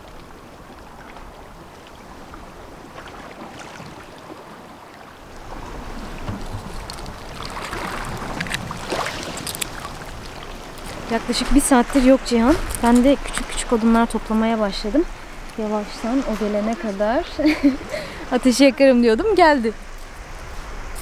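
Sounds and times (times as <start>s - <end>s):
waves lapping against rocks: 0.0s - 21.0s.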